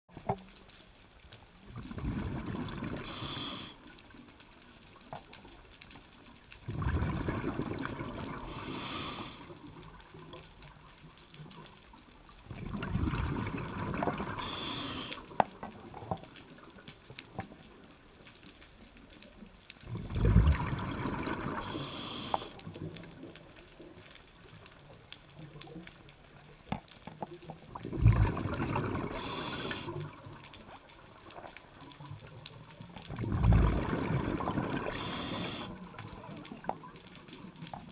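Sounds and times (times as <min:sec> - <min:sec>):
underwater bubbles gurgling: 0:00.1 - 0:37.9.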